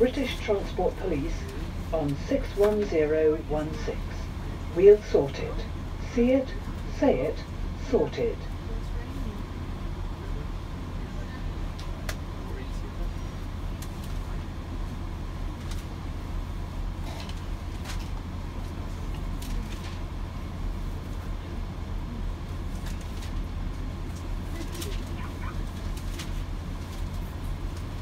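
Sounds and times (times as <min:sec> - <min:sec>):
train interior low drone: 0:00.0 - 0:28.0.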